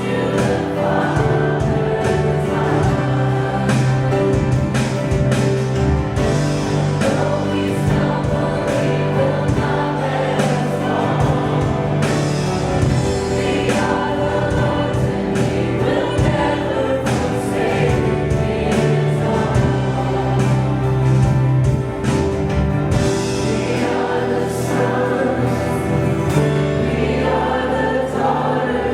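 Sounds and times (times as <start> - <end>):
choir singing worship song: 0.0 - 28.9
sustained instrumental chords: 0.0 - 28.9.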